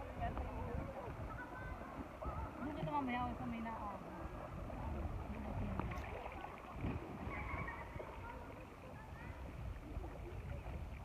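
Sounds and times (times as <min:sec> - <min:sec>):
faint voices talking: 0:00.0 - 0:11.0
water sloshing around waders: 0:00.0 - 0:11.0.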